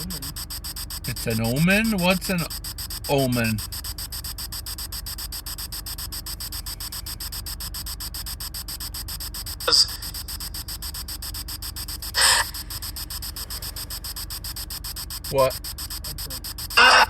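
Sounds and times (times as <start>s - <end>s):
radio static chopped rapidly: 0.0s - 17.0s
snatches of radio sound: 0.0s - 17.0s.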